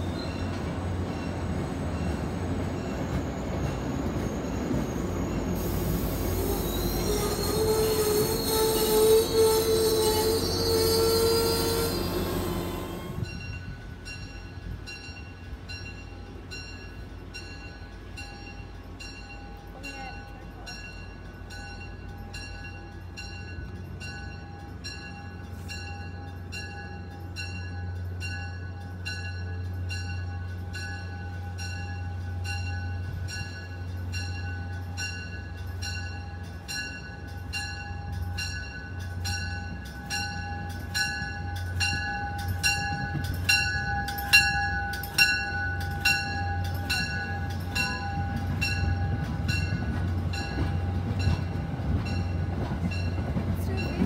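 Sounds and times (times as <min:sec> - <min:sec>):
train bell ringing: 0:00.0 - 0:54.0
train rumble and wheel clatter: 0:00.0 - 0:54.0.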